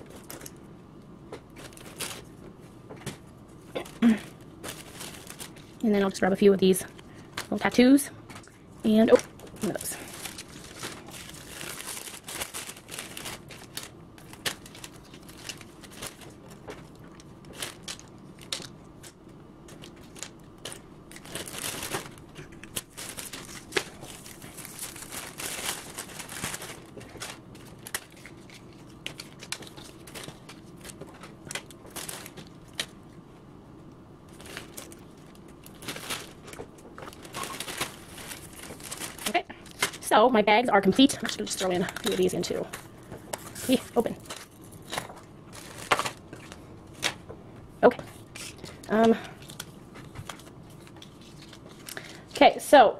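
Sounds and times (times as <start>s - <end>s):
plastic bags crinkling: 0.0s - 33.2s, 34.2s - 52.4s.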